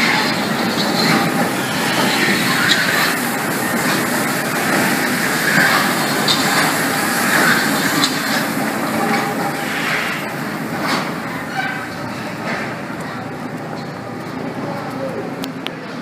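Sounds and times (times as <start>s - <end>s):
sharp train clanks: 0.0s - 15.9s
metro train running past: 0.0s - 16.0s.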